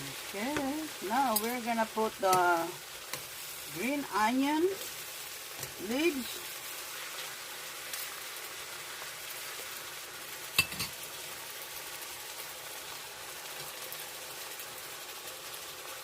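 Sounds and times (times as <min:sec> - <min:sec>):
stir-fry sizzling in a pan: 0:00.0 - 0:16.0.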